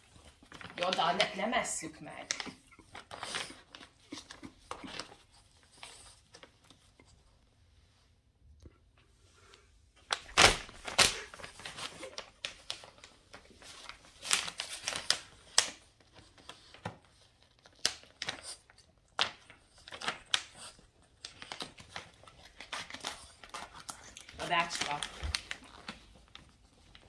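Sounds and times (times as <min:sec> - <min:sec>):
paper bag crinkling: 0:00.0 - 0:06.8, 0:10.0 - 0:27.0.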